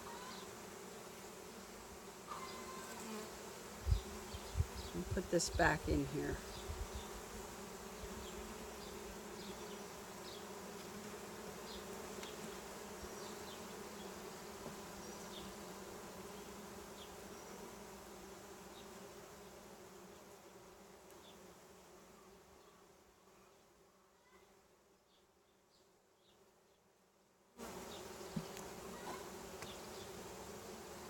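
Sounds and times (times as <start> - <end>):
bees buzzing: 0.0 - 21.8, 27.6 - 31.0.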